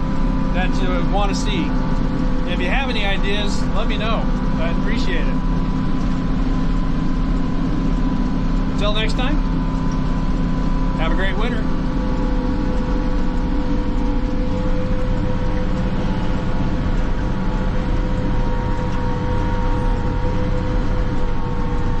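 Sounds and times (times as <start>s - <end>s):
motor grader engine drone: 0.0s - 22.0s
steady whine: 0.0s - 22.0s.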